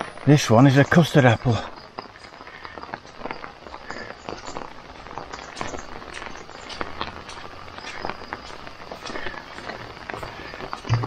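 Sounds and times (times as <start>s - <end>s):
footsteps on waterlogged lawn: 0.3s - 11.0s
light ticks and drips: 0.3s - 11.0s.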